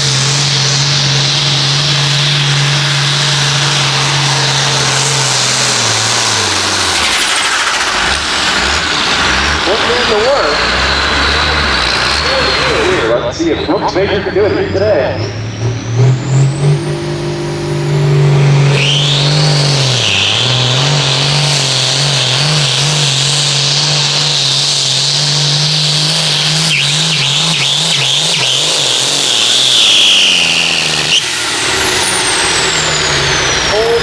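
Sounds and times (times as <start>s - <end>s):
high whine: 0.0s - 34.0s
tractor diesel engine at full power: 0.0s - 34.0s.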